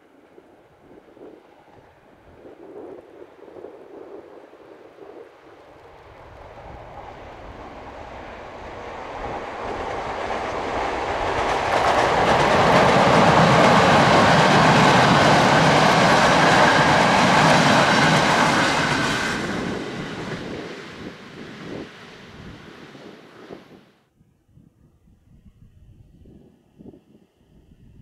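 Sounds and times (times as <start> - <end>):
passenger train rumble: 0.0 - 23.9.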